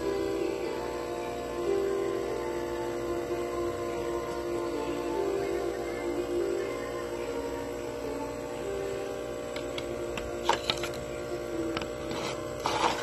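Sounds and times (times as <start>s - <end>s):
steady hum of held tones: 0.0s - 13.0s.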